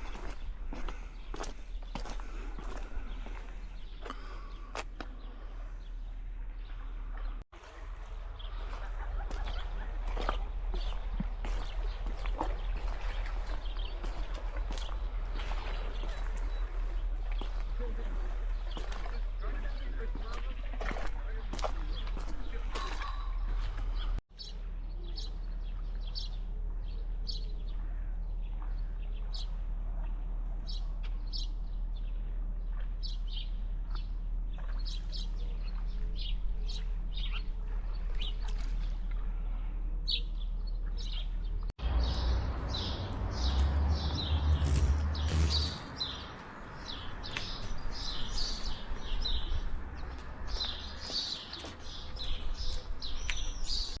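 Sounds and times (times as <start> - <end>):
small birds chirping: 0.0 - 7.4, 8.0 - 29.6, 30.6 - 39.2, 40.1 - 54.0.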